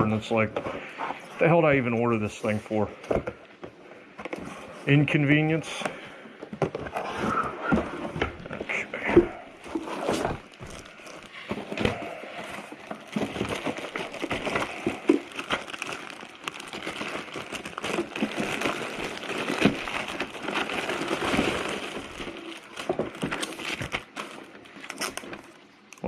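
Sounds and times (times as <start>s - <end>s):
packaging crinkling and rustling: 0.0s - 26.0s.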